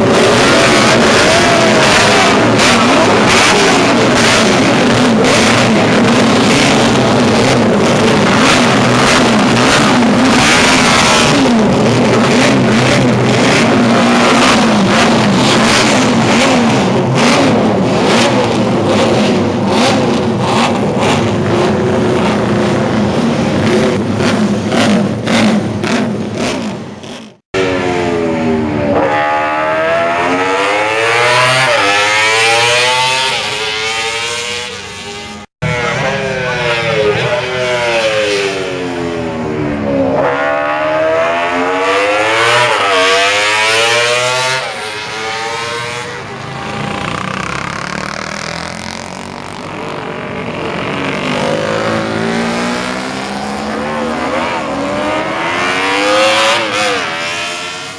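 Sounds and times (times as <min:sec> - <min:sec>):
motorcycles accelerating through gears: 0:00.0 - 0:57.9
racing motorcycle engines revving: 0:00.0 - 0:57.9.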